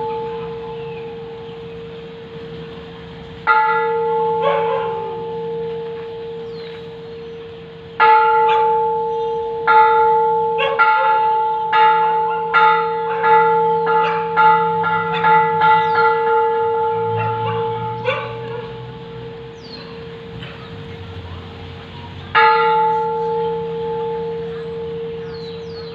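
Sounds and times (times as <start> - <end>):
temple bell ringing: 0.0 - 25.9.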